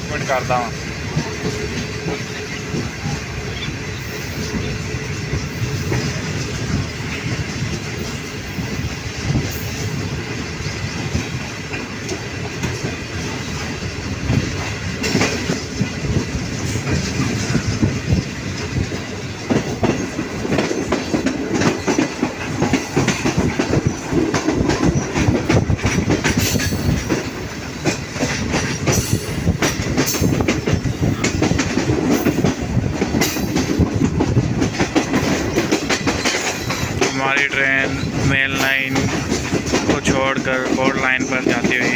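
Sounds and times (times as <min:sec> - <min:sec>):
train wheels clattering over rail joints: 0:00.0 - 0:41.9.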